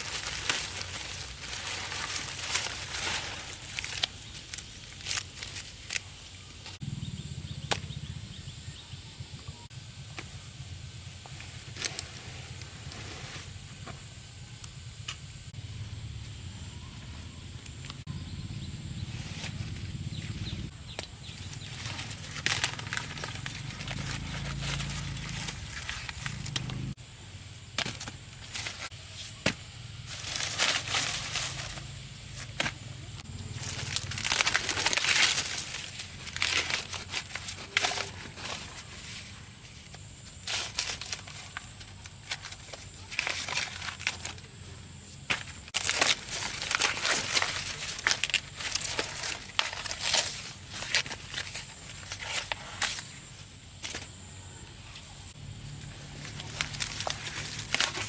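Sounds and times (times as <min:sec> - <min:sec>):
dry plant material rustling: 0:00.0 - 0:06.9, 0:11.1 - 0:14.0, 0:15.6 - 0:54.2, 0:54.8 - 0:58.0.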